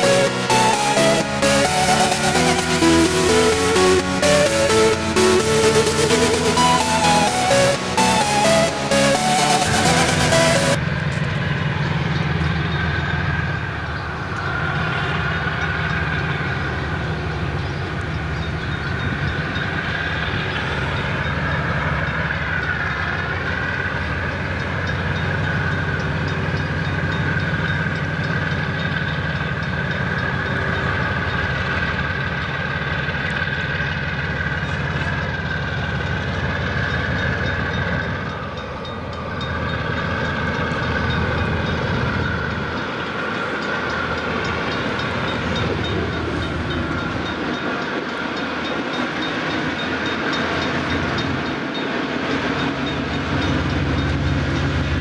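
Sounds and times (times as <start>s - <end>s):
diesel locomotive engine drone: 0.0s - 55.0s
high whine: 0.0s - 55.0s.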